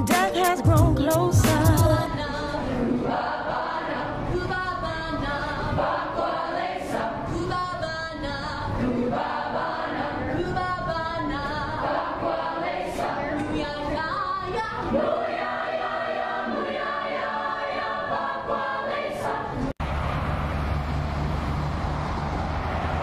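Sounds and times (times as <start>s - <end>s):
group singing a cappella: 0.1s - 19.8s.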